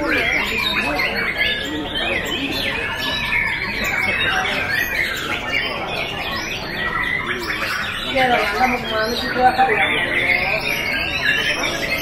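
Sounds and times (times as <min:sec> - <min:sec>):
caged songbirds singing: 0:00.0 - 0:12.0.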